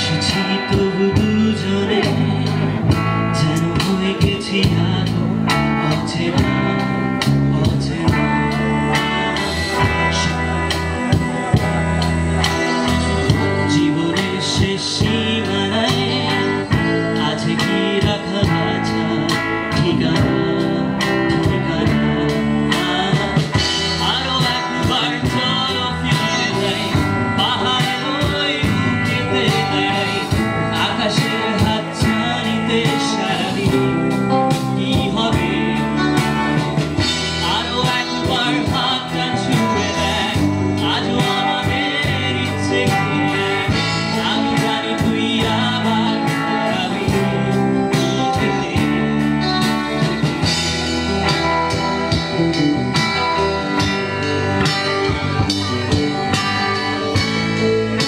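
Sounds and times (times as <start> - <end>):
man singing into microphone: 0.0 - 50.6
bass guitar: 0.0 - 58.0
drum kit: 0.0 - 58.0
electric guitars: 0.0 - 58.0.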